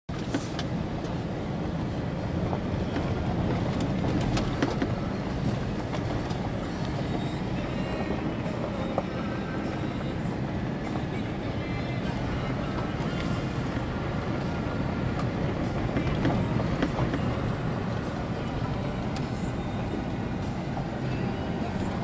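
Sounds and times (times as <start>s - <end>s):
engine and tyres low rumble: 0.1s - 22.0s.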